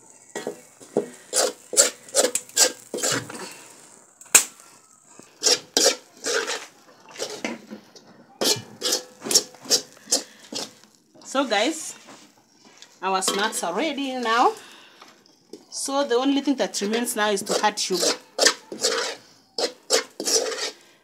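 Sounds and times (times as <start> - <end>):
metal spoon scraping a wok: 0.2 - 3.9, 5.2 - 14.7, 15.5 - 21.0.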